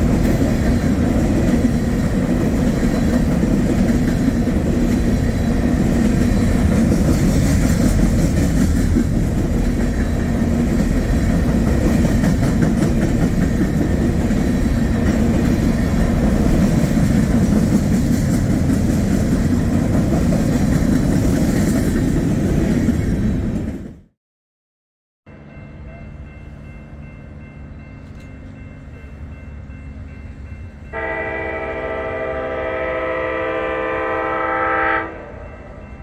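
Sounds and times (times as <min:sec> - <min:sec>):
train wheels rumbling on rail: 0:00.0 - 0:24.1, 0:25.3 - 0:36.0.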